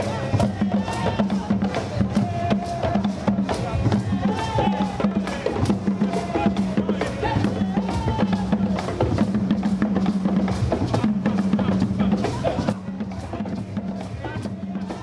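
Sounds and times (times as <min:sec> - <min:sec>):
music with drum beat and bass: 0:00.0 - 0:15.0.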